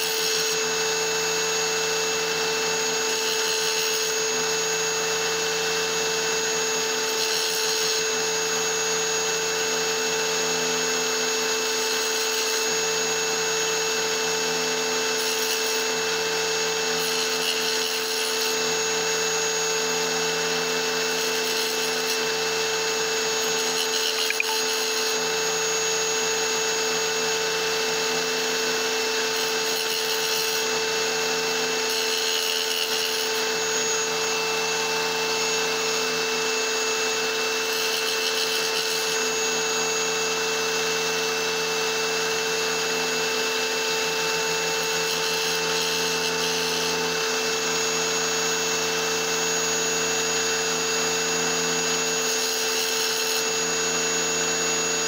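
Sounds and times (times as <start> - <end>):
stone grinding on saw blade: 0.0 - 1.0, 1.6 - 8.7, 11.6 - 13.0, 14.0 - 55.0
wet tile saw humming: 0.0 - 55.0.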